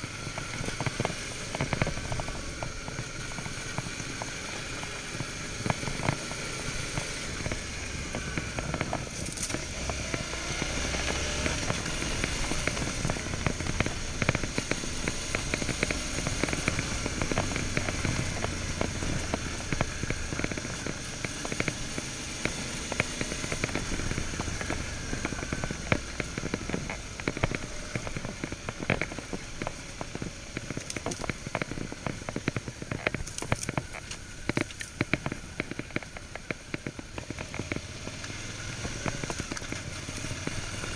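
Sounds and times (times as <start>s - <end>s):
gravel crackling under tyres: 0.0s - 40.9s
motorcycle engine running: 0.0s - 40.9s.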